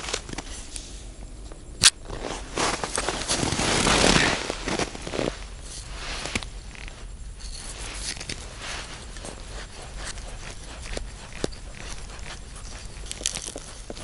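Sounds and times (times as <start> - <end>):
low steady rumble: 0.0 - 14.0
crunching snow: 1.9 - 14.0.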